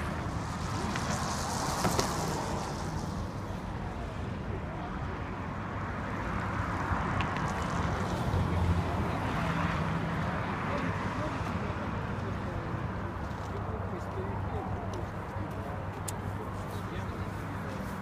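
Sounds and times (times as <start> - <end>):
city traffic: 0.0 - 18.0.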